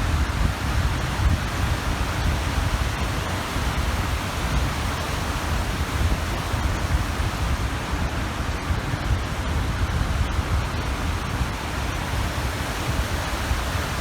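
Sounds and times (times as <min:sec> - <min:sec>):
waves washing onto shore: 0:00.0 - 0:14.0
wind rumbling on microphone: 0:00.0 - 0:14.0.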